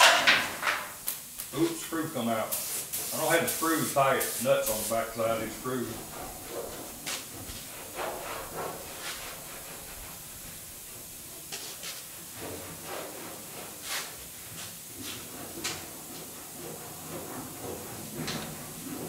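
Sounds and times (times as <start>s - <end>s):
steady hiss: 0.0s - 19.0s
rag wiping on sheet metal: 1.9s - 19.0s.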